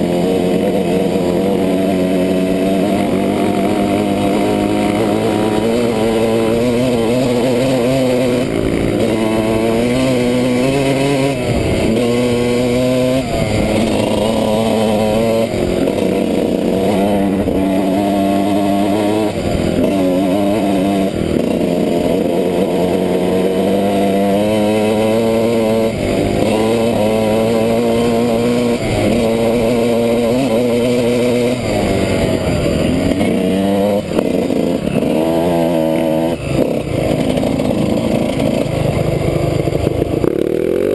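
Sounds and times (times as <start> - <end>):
off-road motorcycle engine revving: 0.0 - 40.9.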